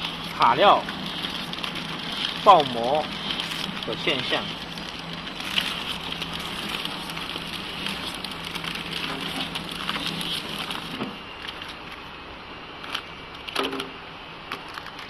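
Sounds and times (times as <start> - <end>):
plastic film crinkling: 0.0 - 12.2, 14.5 - 15.0
packing machine humming: 0.0 - 15.0.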